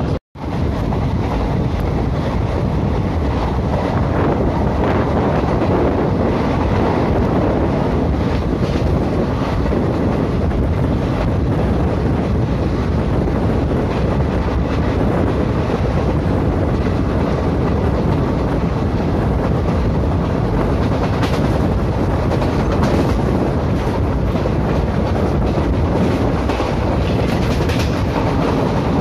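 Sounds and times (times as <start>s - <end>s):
train rumbling: 0.0s - 29.0s
wind over microphone: 0.0s - 29.0s.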